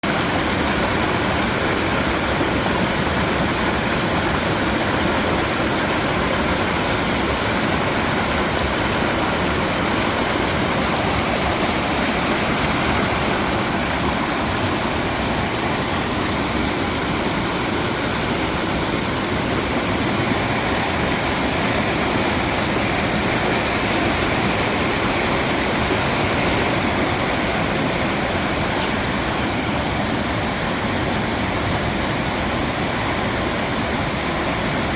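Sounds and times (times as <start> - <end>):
stream rushing water: 0.0 - 34.9.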